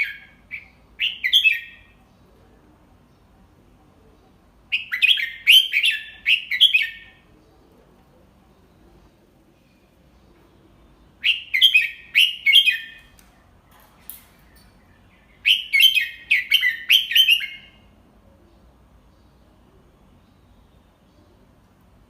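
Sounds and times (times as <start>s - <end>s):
bird chirping song: 0.0s - 22.0s.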